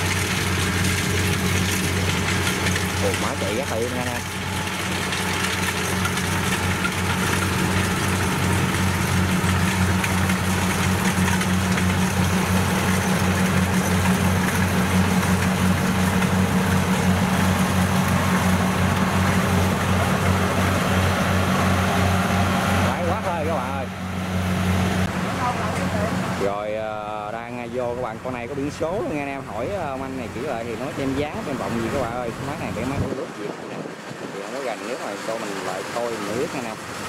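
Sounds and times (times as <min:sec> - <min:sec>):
diesel engine humming: 0:00.0 - 0:37.0
machinery whirring: 0:00.0 - 0:37.0.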